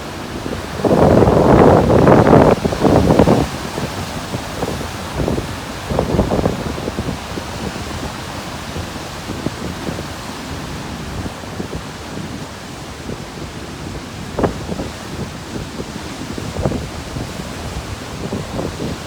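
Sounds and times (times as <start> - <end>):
surf crashing on rocks: 0.0 - 19.0
wind buffeting microphone: 0.0 - 19.0.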